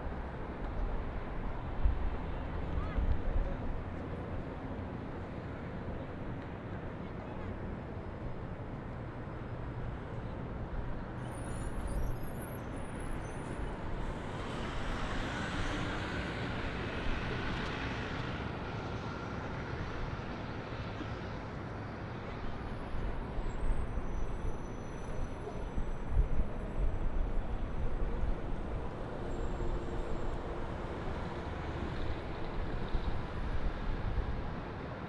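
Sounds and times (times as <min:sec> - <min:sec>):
city traffic noise: 0:00.0 - 0:35.0.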